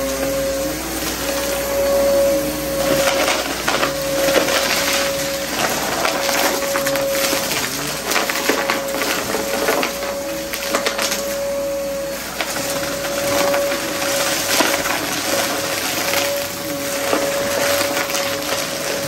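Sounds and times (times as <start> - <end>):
debris crackling under a rug: 0.0 - 19.0
vacuum cleaner whining: 0.0 - 19.0.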